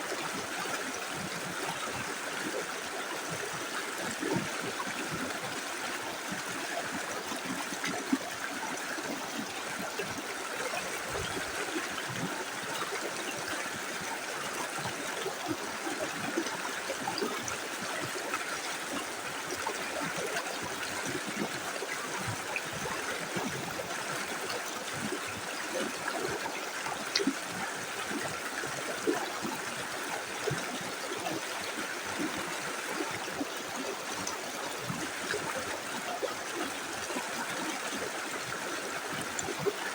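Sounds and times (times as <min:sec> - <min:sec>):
river flowing over stones: 0:00.0 - 0:39.9
water trickling and gurgling: 0:00.0 - 0:39.9
water splashes: 0:00.3 - 0:39.9.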